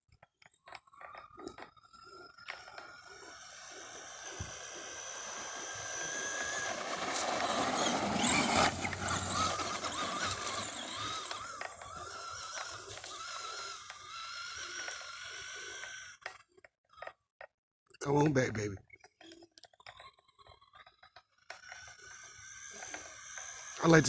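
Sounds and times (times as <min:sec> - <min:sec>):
toy truck electric motor whining: 0:00.2 - 0:17.3, 0:19.1 - 0:24.0.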